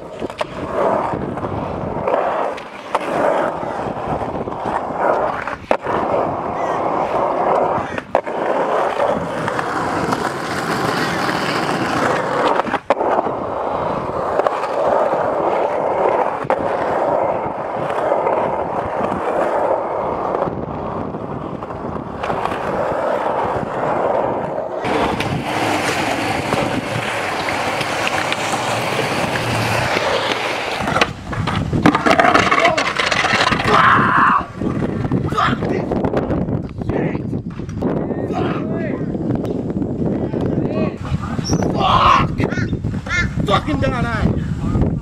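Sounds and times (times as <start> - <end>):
skateboard clacks: 0.0 - 38.6
skateboard wheels rolling on concrete: 0.0 - 45.0.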